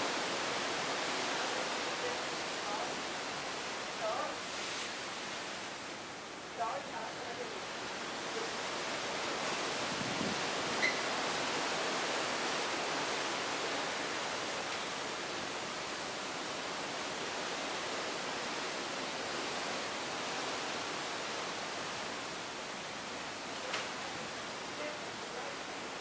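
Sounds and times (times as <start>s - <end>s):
sea and wind rushing: 0.0s - 26.0s.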